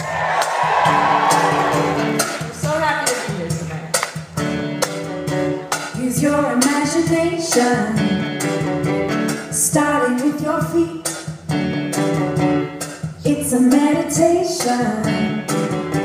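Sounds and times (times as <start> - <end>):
drums: 0.0 - 16.0
electric guitars: 0.0 - 16.0.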